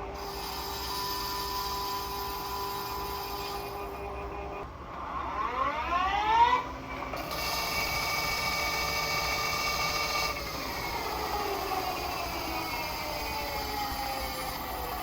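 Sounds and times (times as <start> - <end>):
metal lathe whining: 0.0 - 4.6, 5.8 - 15.0.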